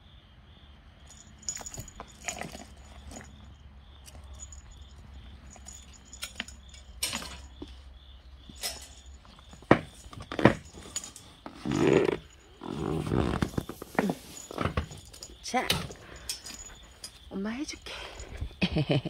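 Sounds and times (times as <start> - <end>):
harness clips jangling: 1.0 - 7.8, 8.4 - 18.6.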